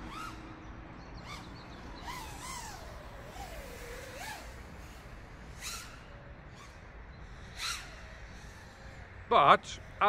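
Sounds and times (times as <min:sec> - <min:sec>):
quadcopter motors whining: 0:00.0 - 0:10.0.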